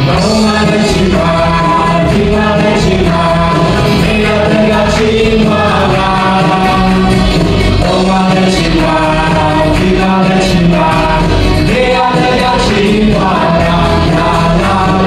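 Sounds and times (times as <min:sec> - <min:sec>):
bass: 0:00.0 - 0:15.0
drums: 0:00.0 - 0:15.0
guitars: 0:00.0 - 0:15.0
keyboard: 0:00.0 - 0:15.0
voices singing together: 0:00.0 - 0:15.0.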